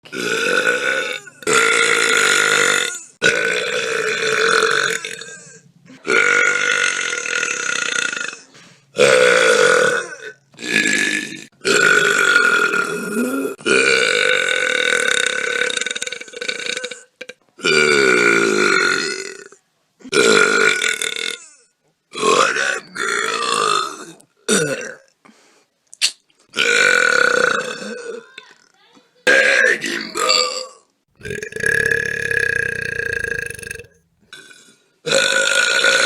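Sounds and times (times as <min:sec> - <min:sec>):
long loud burps: 0:00.0 - 0:25.2, 0:26.5 - 0:28.3, 0:29.3 - 0:36.0.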